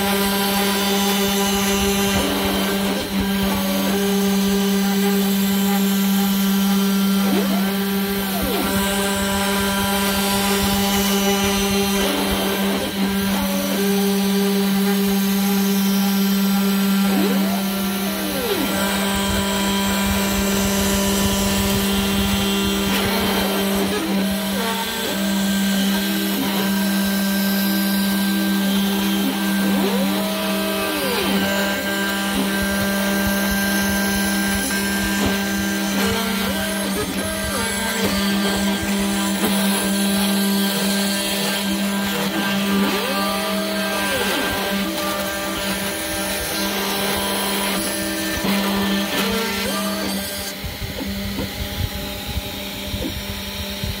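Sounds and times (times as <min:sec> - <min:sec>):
axis motors whining: 0:00.0 - 0:54.0
spindle motor whine: 0:00.0 - 0:54.0.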